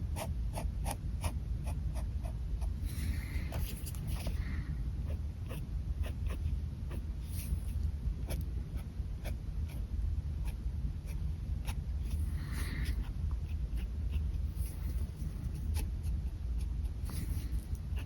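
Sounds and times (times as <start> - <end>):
pen scratching on paper: 0.1 - 4.4, 5.1 - 18.0.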